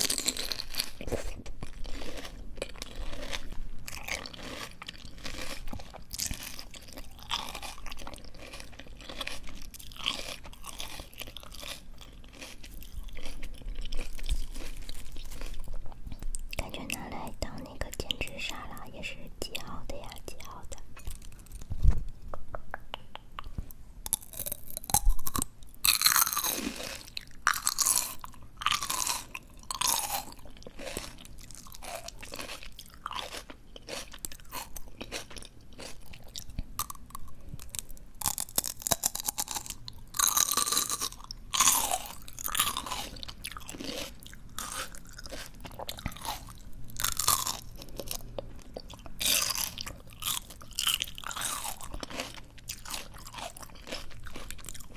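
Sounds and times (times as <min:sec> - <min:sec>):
crunchy chewing of plant stems: 0:00.0 - 0:16.8, 0:23.4 - 0:54.9.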